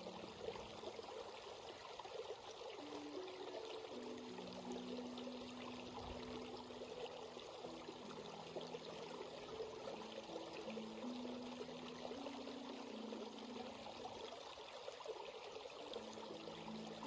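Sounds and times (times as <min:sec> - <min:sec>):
stream water flowing over rocks: 0:00.0 - 0:17.0.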